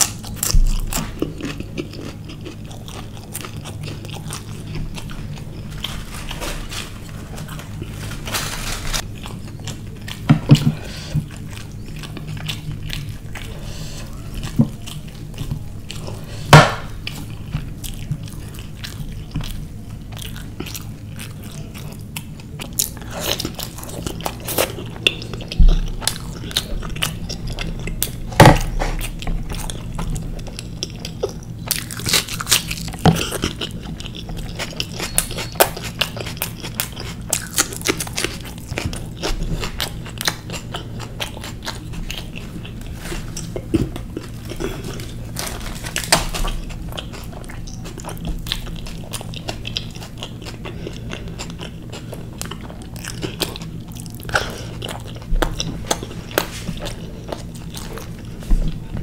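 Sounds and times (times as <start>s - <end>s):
food crunching: 0.0s - 59.0s
person chewing food: 0.0s - 59.0s
steady low hum: 0.0s - 59.0s.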